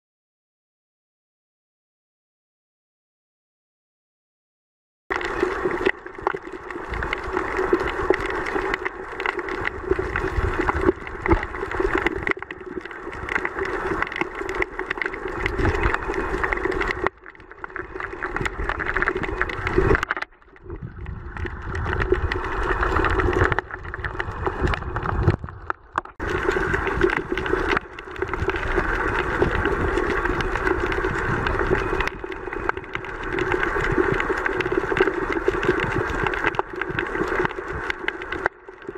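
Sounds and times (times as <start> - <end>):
underwater motor drone: 5.1 - 38.9.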